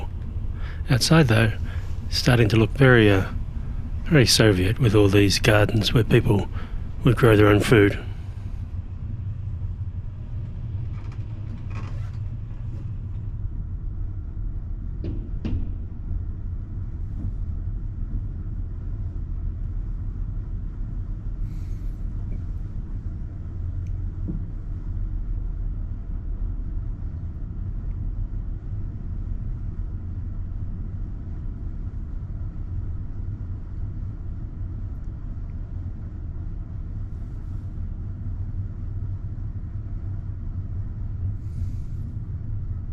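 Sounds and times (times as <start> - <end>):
train rumble from inside carriage: 0.0 - 42.9.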